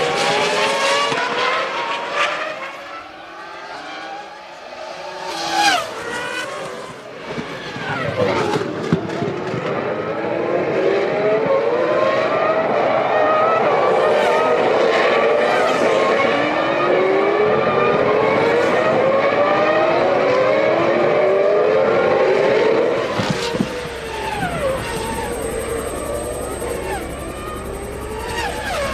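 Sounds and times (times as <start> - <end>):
racing car engines at full throttle: 0.0 - 28.9.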